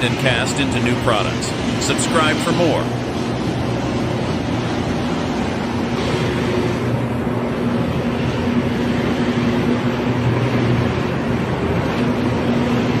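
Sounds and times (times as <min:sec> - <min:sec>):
electric arc furnace arcing: 0:00.0 - 0:13.0
low hum: 0:00.0 - 0:13.0.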